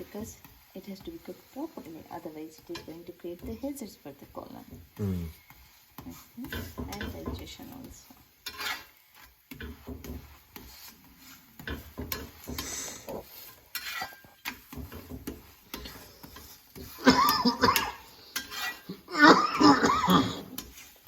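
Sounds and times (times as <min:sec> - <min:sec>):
spatula scraping a griddle: 0:00.0 - 0:21.0.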